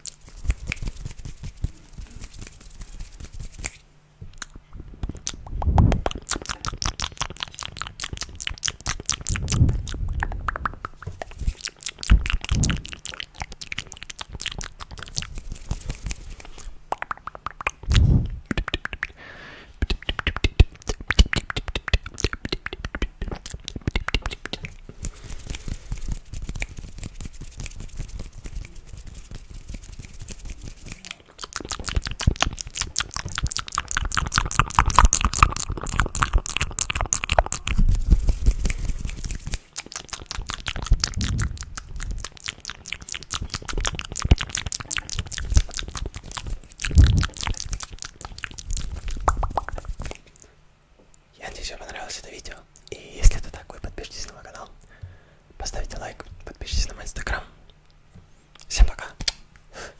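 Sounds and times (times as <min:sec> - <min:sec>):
wet mouth clicks and pops: 0:00.0 - 0:01.6, 0:03.5 - 0:19.2, 0:19.8 - 0:50.5, 0:58.6 - 0:59.4.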